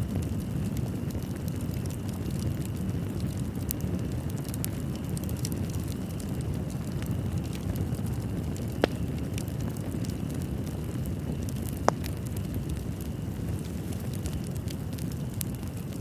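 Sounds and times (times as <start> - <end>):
fireplace fire crackling: 0.0 - 16.0
sharp fire pops: 0.0 - 16.0.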